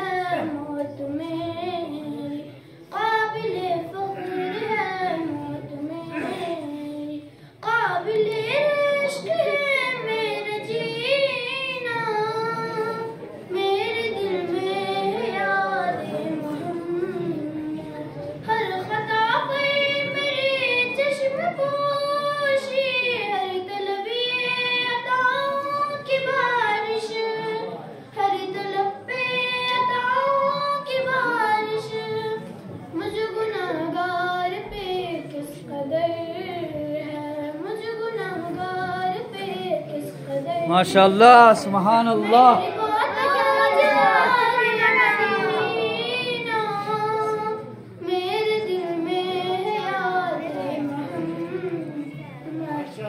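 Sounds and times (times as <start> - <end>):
girl singing devotional chant: 0.0 - 40.9, 42.0 - 53.0.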